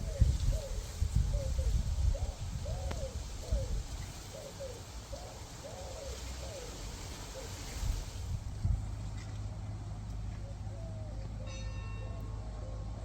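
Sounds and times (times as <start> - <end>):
dove cooing: 0.0 - 7.9, 10.3 - 13.0.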